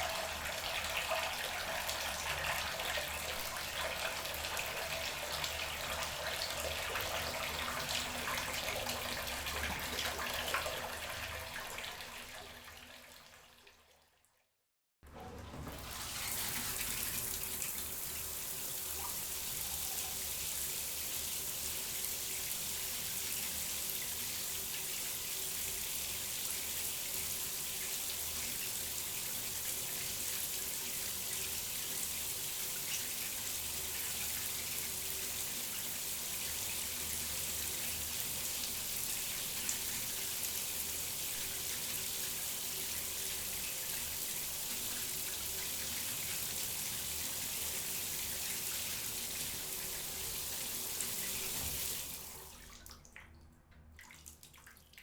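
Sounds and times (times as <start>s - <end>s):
water running: 0.0s - 13.3s, 15.1s - 53.3s.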